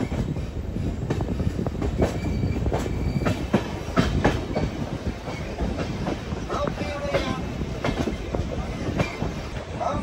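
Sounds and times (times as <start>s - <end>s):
train rumbling: 0.0s - 10.0s
wheels clacking over rail joints: 1.0s - 10.0s.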